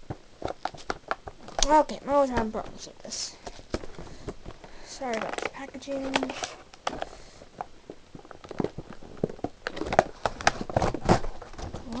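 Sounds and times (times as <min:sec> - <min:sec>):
plastic and cardboard packaging handled: 0:00.0 - 0:12.0.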